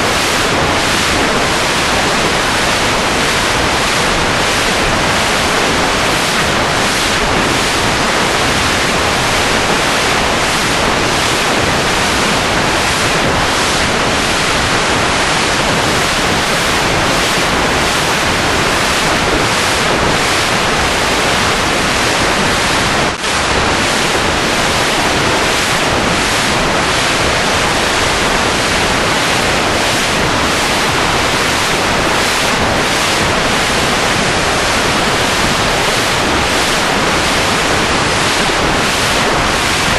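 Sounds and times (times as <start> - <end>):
loud rushing noise: 0.0 - 39.9.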